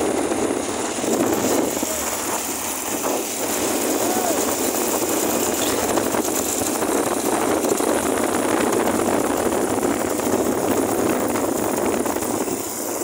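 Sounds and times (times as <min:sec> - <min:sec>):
vehicle engine and road noise: 0:00.0 - 0:13.0
wind on microphone: 0:00.0 - 0:13.0.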